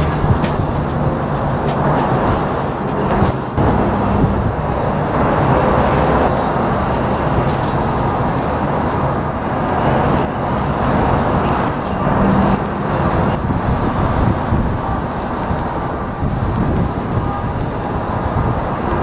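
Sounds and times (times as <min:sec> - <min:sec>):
freight train rumble with hiss: 0:00.0 - 0:19.0.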